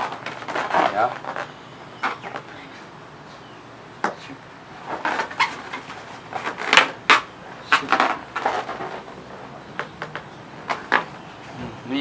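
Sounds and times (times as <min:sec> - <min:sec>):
balloons rubbing and squeaking: 0:00.0 - 0:02.9, 0:04.8 - 0:12.0.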